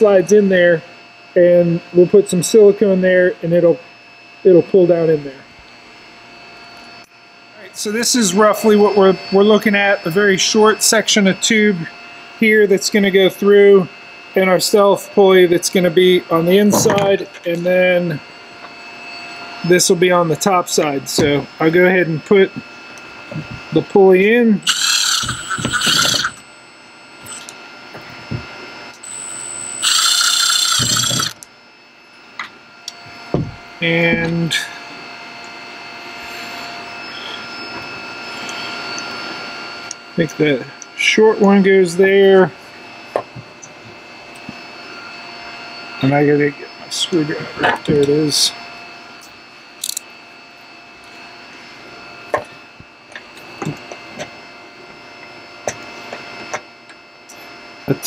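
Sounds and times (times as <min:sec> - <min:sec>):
cordless drill motor whine: 0:00.0 - 0:58.0.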